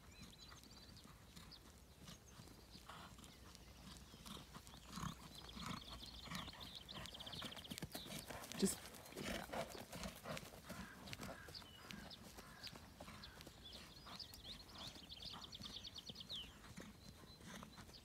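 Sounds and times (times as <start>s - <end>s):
horse hoofbeats on grass: 0.0s - 18.0s.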